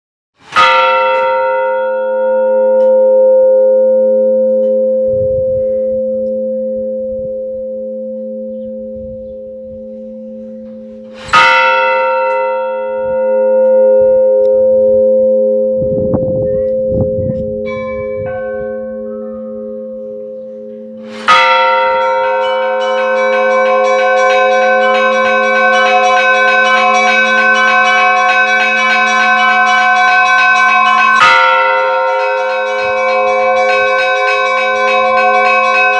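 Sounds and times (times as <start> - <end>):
large church bell ringing: 0.5 - 35.9
smaller bells pealing: 0.6 - 35.9.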